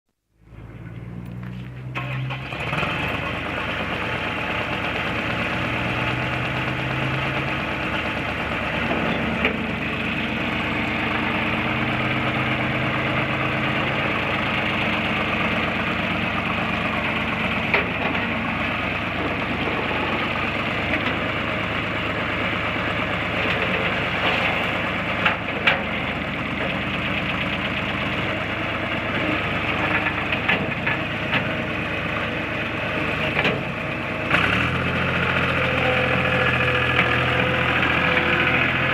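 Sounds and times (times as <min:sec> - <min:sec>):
diesel engine running: 0:00.4 - 0:38.9.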